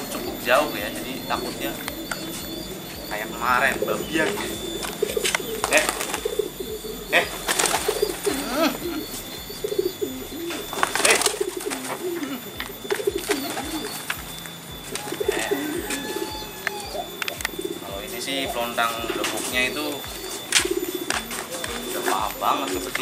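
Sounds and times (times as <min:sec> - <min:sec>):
pigeons cooing: 0:00.0 - 0:23.0
wing flapping: 0:00.0 - 0:23.0.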